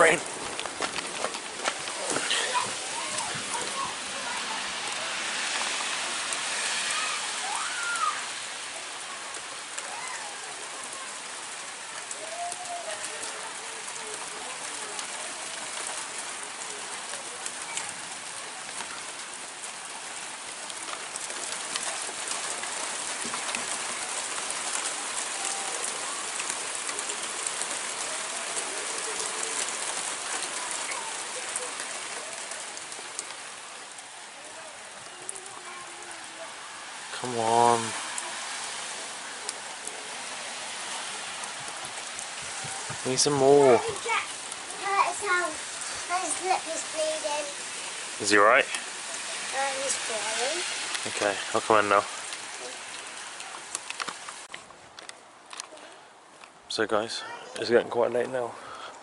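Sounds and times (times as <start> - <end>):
heavy rain hissing: 0.0 - 54.6, 55.2 - 59.0
raindrops ticking on surfaces: 0.0 - 59.0.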